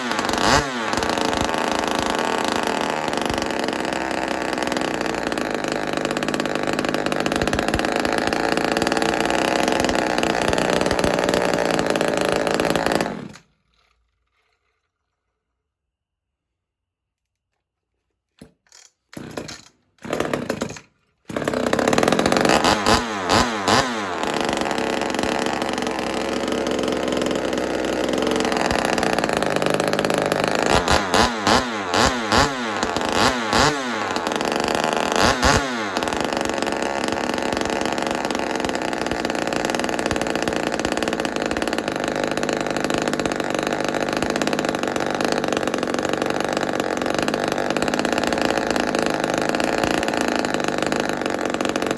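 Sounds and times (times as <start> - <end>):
chainsaw running and revving: 0.0 - 13.6, 19.2 - 51.9
chainsaw sputtering: 0.0 - 13.6, 18.8 - 51.9.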